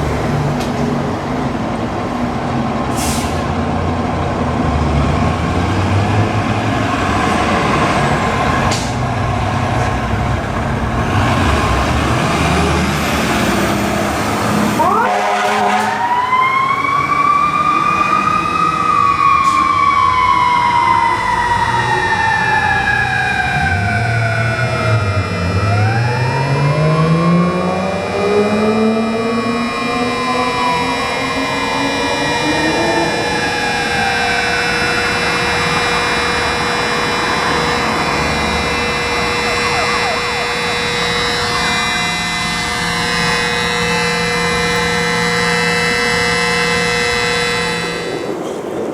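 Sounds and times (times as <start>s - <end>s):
fire truck siren wailing: 0.0s - 48.6s.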